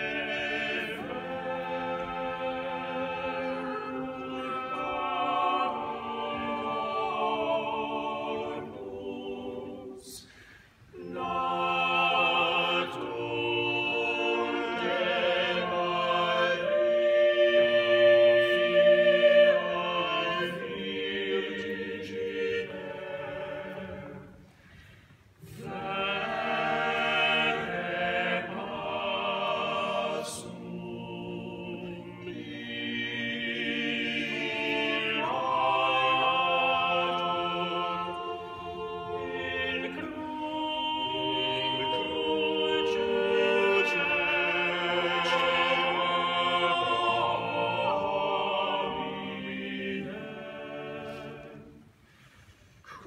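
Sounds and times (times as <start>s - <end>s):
mixed choir singing unaccompanied: 0.0s - 24.5s, 25.4s - 52.0s.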